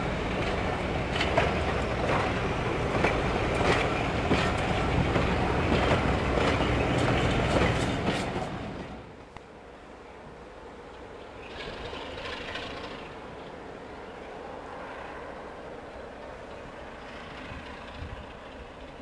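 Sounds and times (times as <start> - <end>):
wheels clicking over rail joints: 0.0 - 9.5, 10.8 - 13.7, 16.2 - 19.0
train rumble: 0.0 - 19.0.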